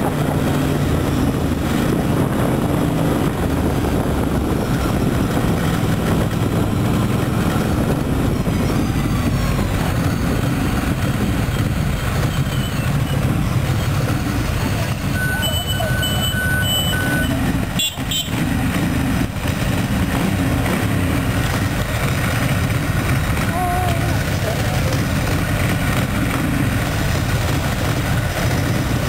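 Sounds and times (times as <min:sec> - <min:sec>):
motorcycle engines droning: 0:00.0 - 0:29.0.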